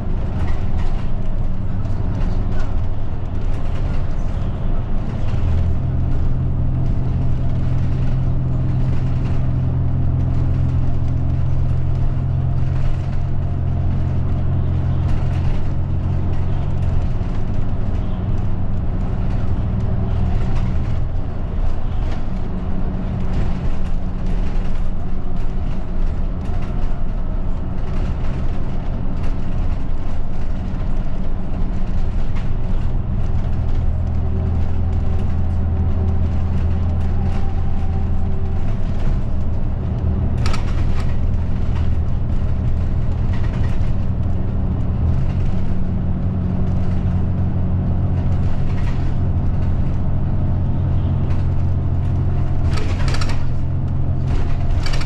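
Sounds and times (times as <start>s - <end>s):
bus engine drone: 0.0s - 55.0s
road noise: 0.0s - 55.0s.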